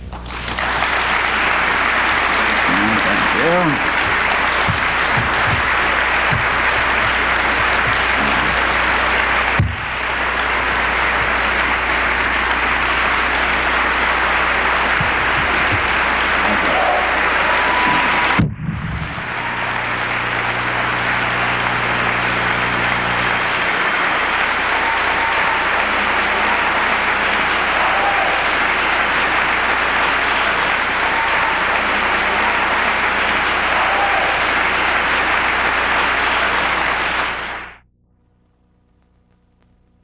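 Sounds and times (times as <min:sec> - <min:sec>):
audience applauding: 0:00.0 - 0:37.8.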